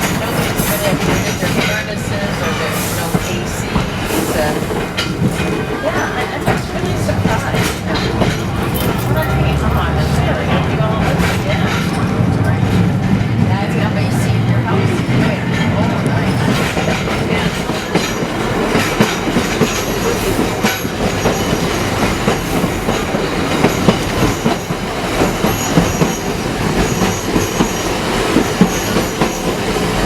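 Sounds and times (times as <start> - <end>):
tram rumbling: 0.0 - 30.0
wheels clattering over rail joints: 0.0 - 30.0.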